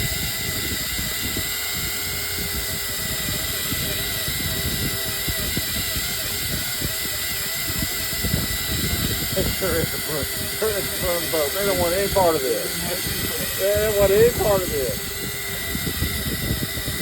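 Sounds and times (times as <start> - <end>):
fishing reel motor whining: 0.0 - 17.0
wind buffeting microphone: 0.1 - 17.0.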